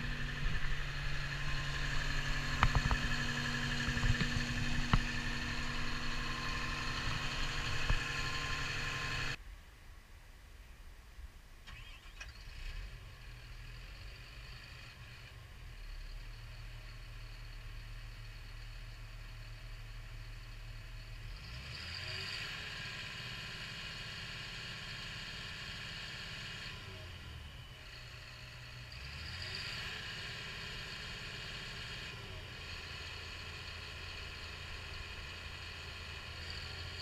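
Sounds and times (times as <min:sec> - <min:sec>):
bulldozer diesel engine: 0:00.0 - 0:09.4, 0:11.7 - 0:37.0.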